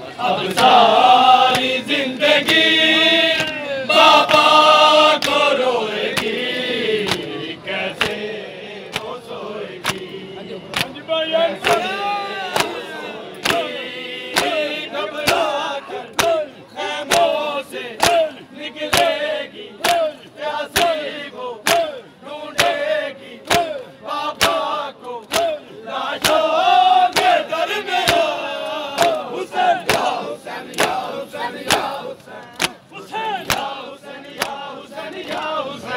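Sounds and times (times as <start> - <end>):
crowd of men chanting: 0.0 - 35.9
rhythmic slaps: 0.4 - 35.7.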